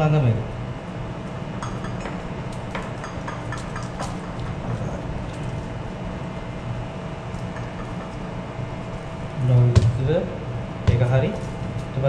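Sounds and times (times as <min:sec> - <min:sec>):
ship machinery hum: 0:00.0 - 0:12.0.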